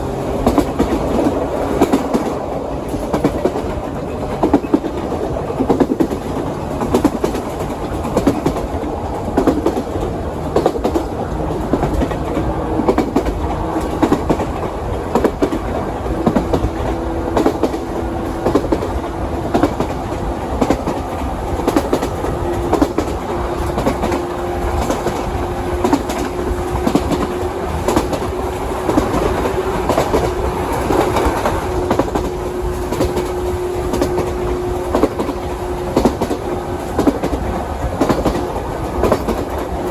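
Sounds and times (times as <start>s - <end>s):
train running noise: 0.0s - 39.9s
wheels clacking over rail joints: 0.0s - 39.9s.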